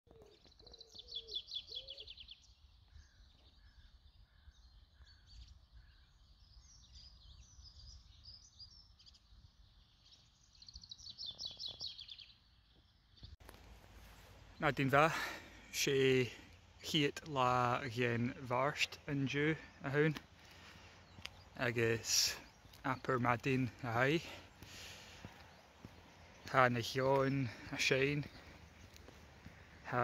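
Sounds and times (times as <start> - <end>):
songbirds singing: 0.1 - 30.0.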